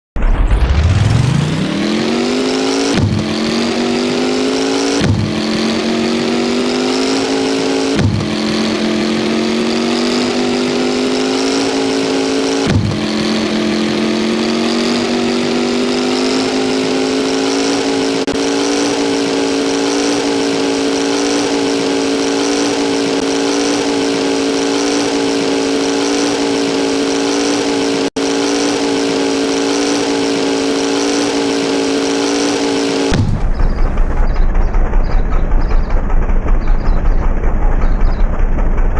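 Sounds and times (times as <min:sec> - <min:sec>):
engine revving and accelerating: 0:00.2 - 0:38.9.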